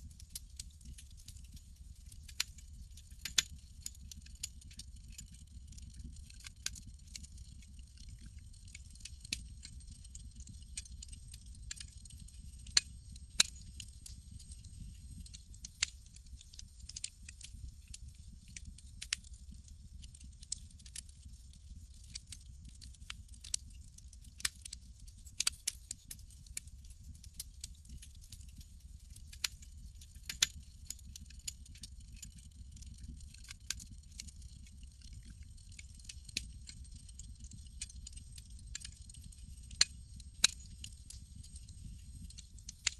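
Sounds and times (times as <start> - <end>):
campfire crackling and popping: 0.2 - 2.5, 3.2 - 26.7, 27.3 - 42.9
low fire rumble: 3.3 - 25.5, 27.3 - 42.8.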